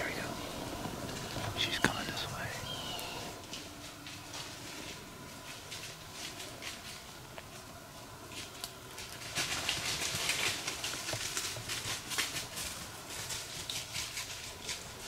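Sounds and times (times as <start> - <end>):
deer footsteps crunching dry leaves: 0.0 - 15.0.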